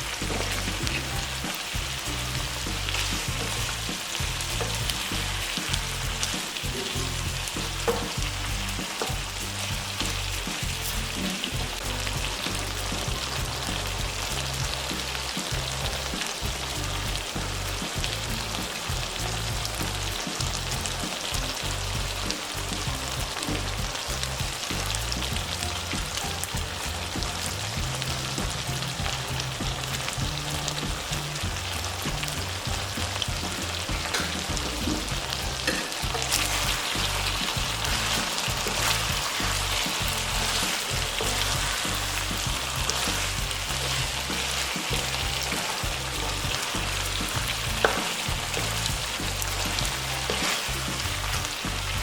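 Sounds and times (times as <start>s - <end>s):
background music: 0.0s - 52.0s
food sizzling in oil: 0.0s - 52.0s.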